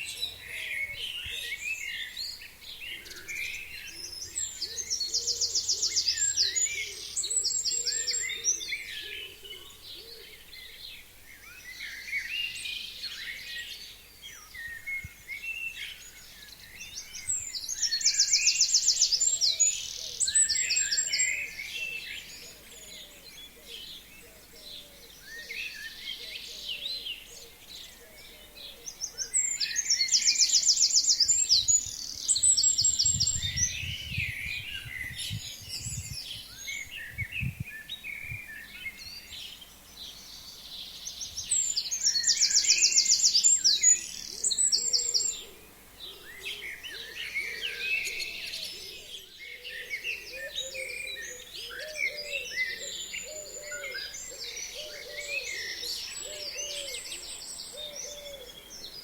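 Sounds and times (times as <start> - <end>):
forest birds singing: 0.0 - 59.0.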